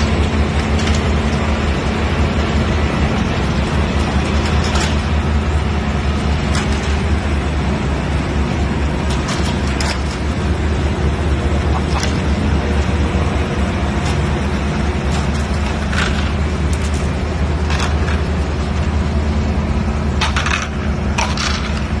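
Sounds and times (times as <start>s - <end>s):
heavy machinery engine rumble: 0.0s - 22.0s.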